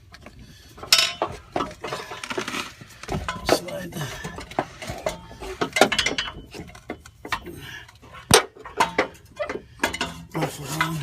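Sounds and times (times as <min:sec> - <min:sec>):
metal clinking and scraping: 0:00.0 - 0:11.0.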